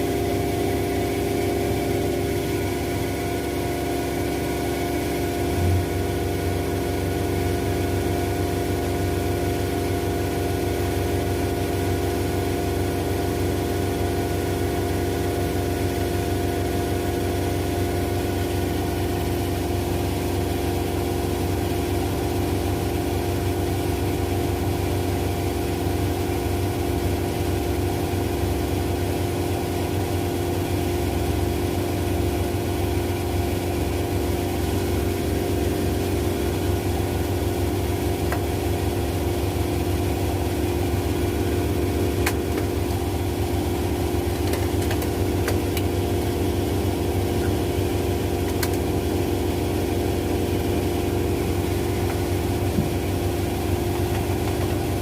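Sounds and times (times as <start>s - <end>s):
washing machines spinning: 0.0s - 55.0s.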